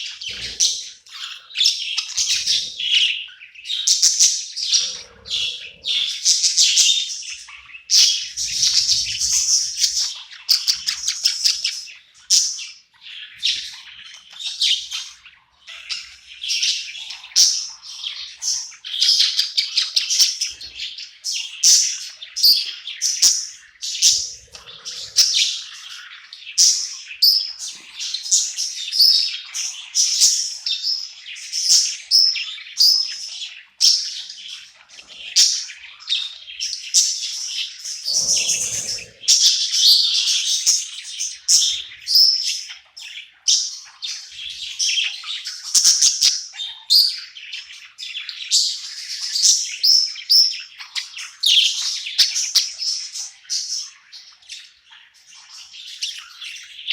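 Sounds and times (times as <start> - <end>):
budgerigars chirping and warbling: 0.0 - 56.9.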